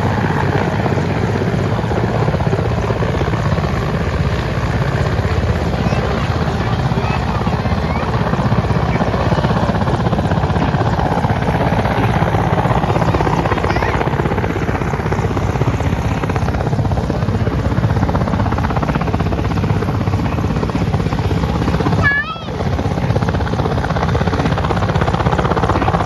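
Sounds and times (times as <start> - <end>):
helicopter rotor blades chopping: 0.0 - 26.0
helicopter turbine noise: 0.0 - 26.0.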